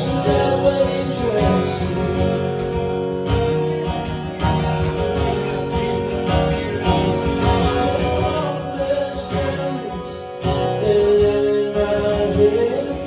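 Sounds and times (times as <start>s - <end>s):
country band playing: 0.0s - 13.0s
strummed acoustic guitar: 0.0s - 13.0s.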